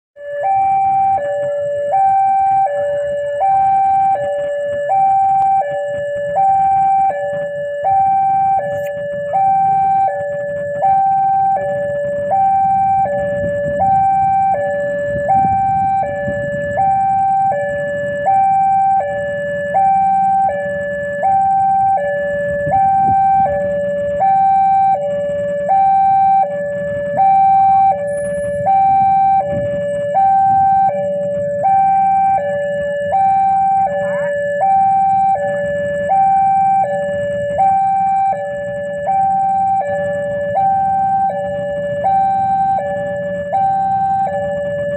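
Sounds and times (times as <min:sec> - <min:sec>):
level crossing two-tone alarm: 0:00.2 - 0:44.9
low rumble of traffic: 0:00.2 - 0:44.9.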